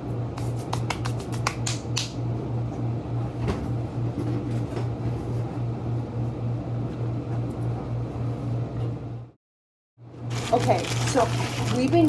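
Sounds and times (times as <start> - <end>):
kitchen appliance pulsing hum: 0.0 - 9.4, 10.0 - 12.0.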